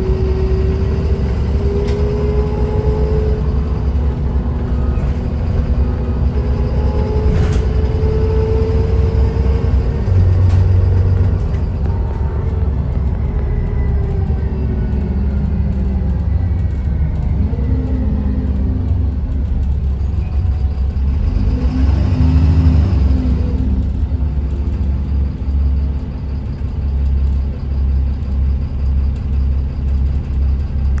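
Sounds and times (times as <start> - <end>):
low pulsing drone: 0.0 - 28.2
bus engine running: 0.0 - 31.0.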